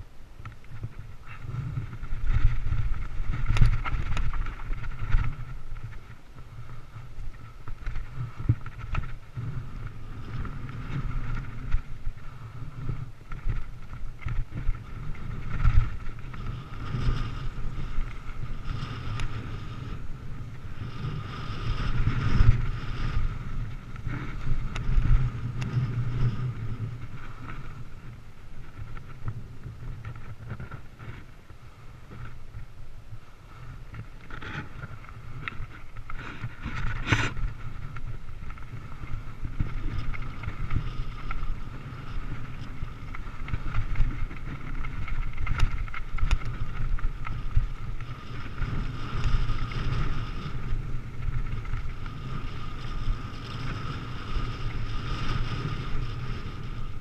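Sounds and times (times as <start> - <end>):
bike rumbling and rattling: 0.0 - 57.0
wind buffeting microphone: 0.0 - 57.0.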